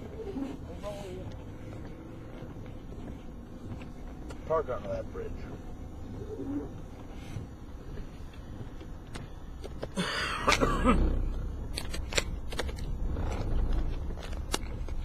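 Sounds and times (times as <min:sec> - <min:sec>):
vehicle interior rumble: 0:00.0 - 0:15.0.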